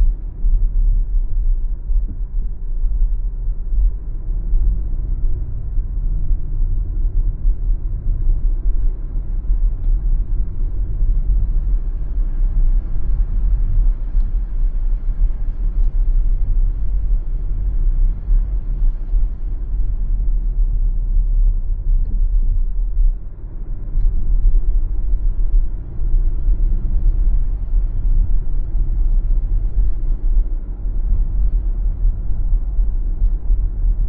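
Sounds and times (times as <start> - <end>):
car driving road rumble: 0.0 - 34.0.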